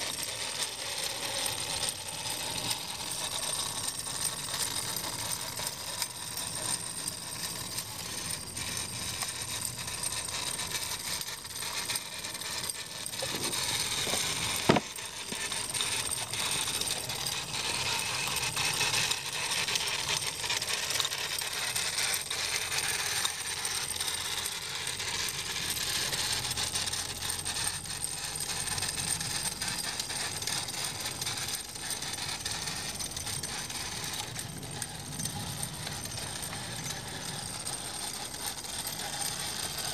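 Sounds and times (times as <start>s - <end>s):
metal wheels rattling over stones: 0.0s - 25.4s, 26.0s - 39.9s.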